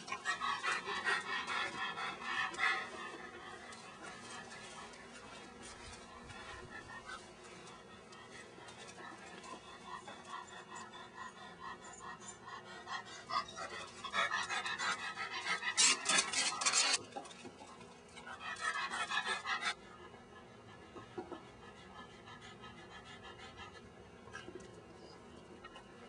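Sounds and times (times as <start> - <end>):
dog panting: 0.0 - 26.0.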